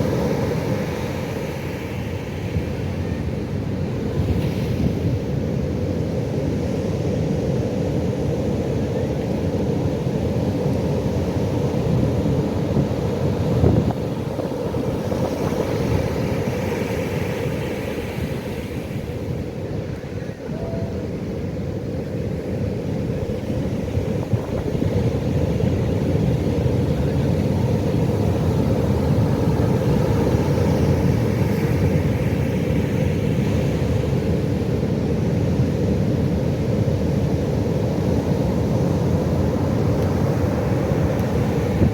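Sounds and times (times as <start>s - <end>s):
ocean waves breaking: 0.0s - 6.2s, 9.9s - 41.9s.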